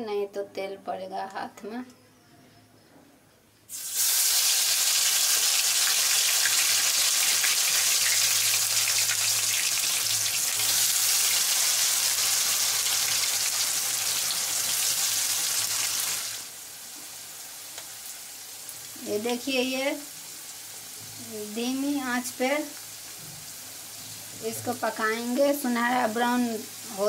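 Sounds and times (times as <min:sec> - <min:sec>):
deep-frying sizzle: 0:03.7 - 0:27.0.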